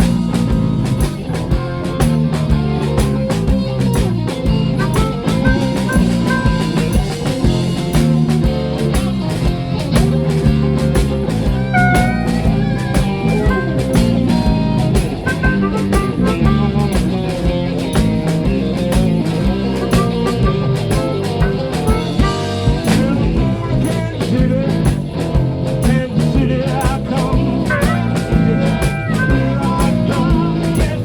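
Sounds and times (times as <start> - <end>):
lead guitar line bending: 0.0 - 31.0
live blues band playing: 0.0 - 31.0.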